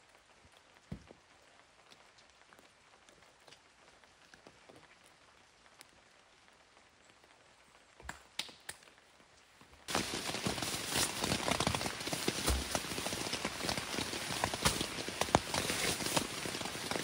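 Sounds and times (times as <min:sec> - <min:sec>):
dense crackling rain patter: 0:00.0 - 0:17.0
light rain drops ticking: 0:00.0 - 0:17.0.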